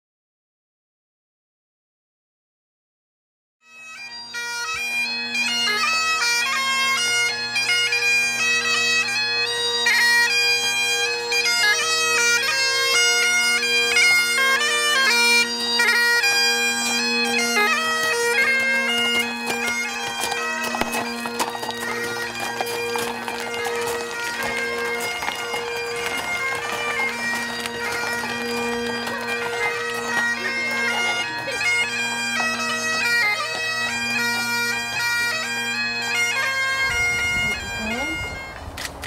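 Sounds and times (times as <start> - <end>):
bagpipes playing: 3.6 - 39.0.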